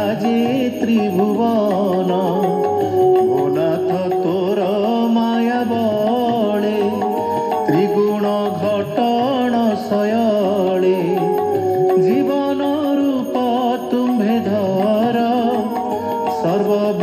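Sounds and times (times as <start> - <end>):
devotional chant-like music: 0.0 - 17.0.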